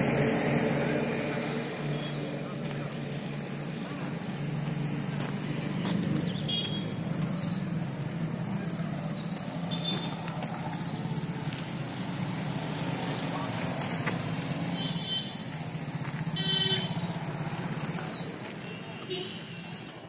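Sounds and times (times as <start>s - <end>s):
vehicle engine droning: 0.0s - 18.6s.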